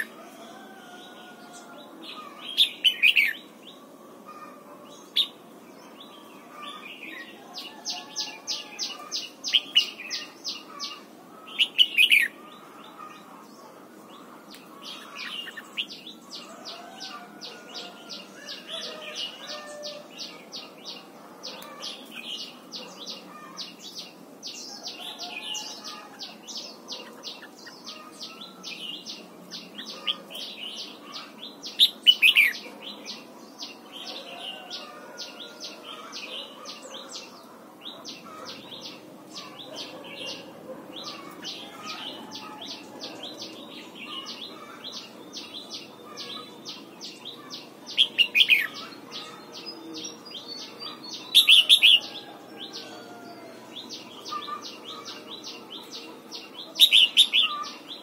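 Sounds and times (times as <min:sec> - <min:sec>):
bird song phrases: 0:00.0 - 0:58.0.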